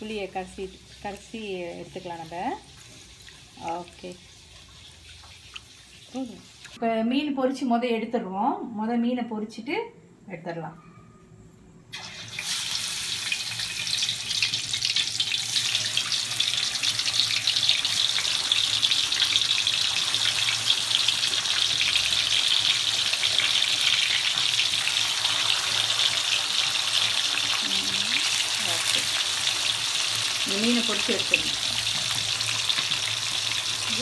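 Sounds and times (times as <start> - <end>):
fish sizzling in hot oil: 0.0 - 6.8, 11.9 - 34.0.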